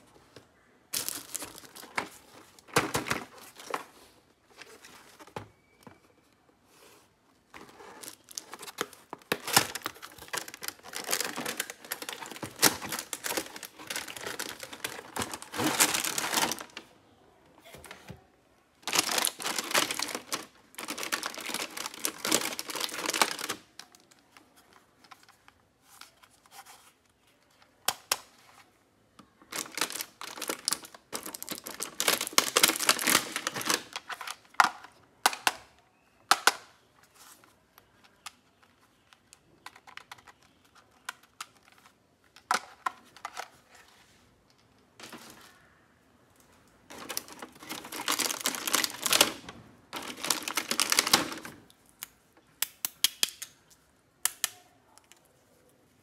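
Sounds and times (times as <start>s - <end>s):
cardboard and plastic rustling: 0.0s - 36.4s, 37.0s - 45.7s, 46.4s - 51.7s.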